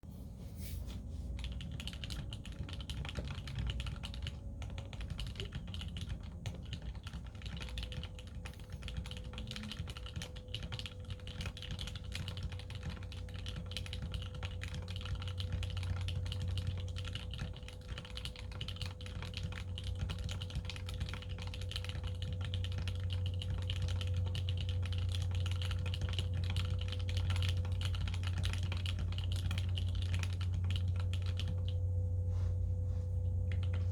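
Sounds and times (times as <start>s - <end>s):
steady low hum: 0.0s - 33.9s
mechanical keyboard typing: 1.4s - 31.8s.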